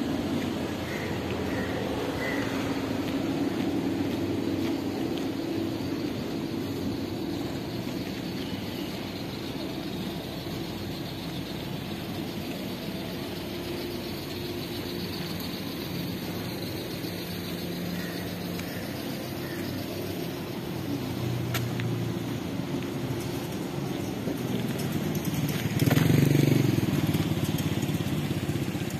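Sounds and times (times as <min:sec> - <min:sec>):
engine idling nearby: 0:00.0 - 0:28.9
traffic hum: 0:00.0 - 0:28.9.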